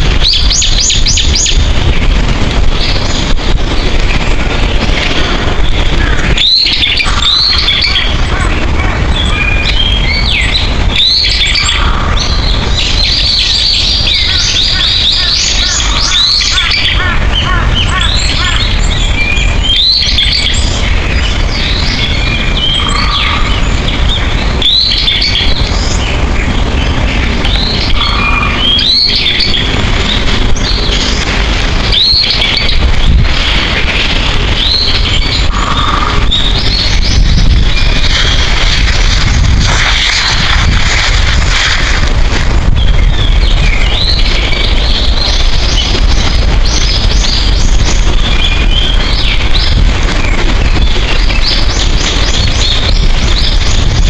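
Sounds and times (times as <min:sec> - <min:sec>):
wild birds singing: 0:00.0 - 0:41.8, 0:42.7 - 0:54.0
low rumble: 0:00.0 - 0:54.0
fast bird trill: 0:02.7 - 0:41.9, 0:42.7 - 0:54.0.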